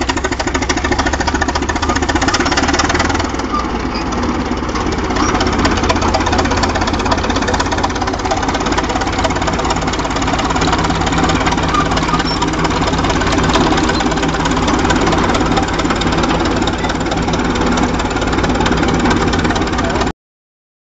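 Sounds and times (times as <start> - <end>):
tractor engine knocking: 0.0 - 20.1.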